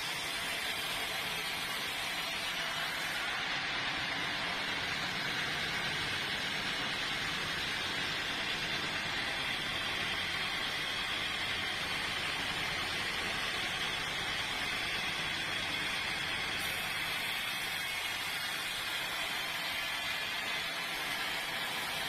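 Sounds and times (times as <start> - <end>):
sawmill saw cutting log: 0.0 - 22.0.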